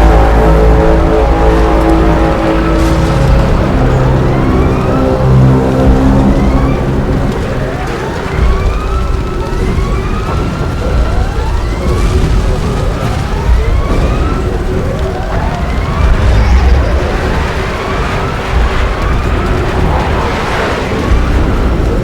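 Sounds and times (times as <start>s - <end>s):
loud deep rumble: 0.0s - 22.0s.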